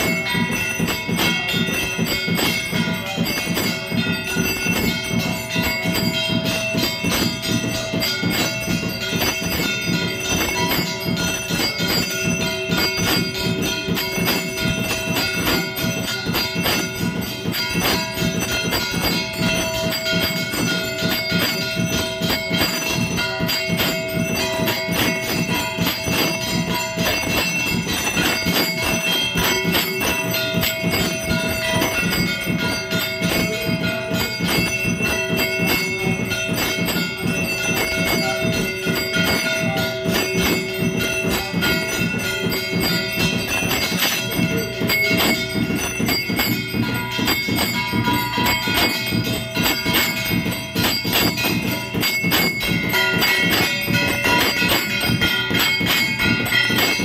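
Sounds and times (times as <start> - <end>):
bells and metal percussion clanging: 0.0 - 57.0.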